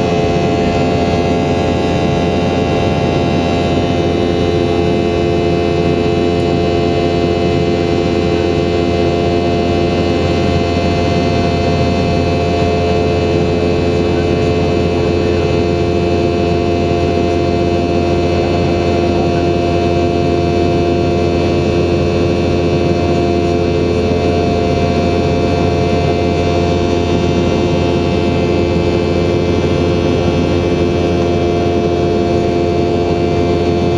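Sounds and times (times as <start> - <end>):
jet engines droning: 0.0 - 33.9.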